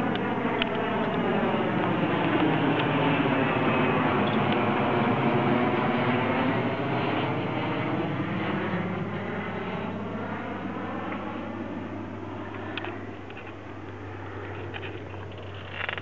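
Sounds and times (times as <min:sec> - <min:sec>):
airplane flying overhead: 0:00.0 - 0:16.0.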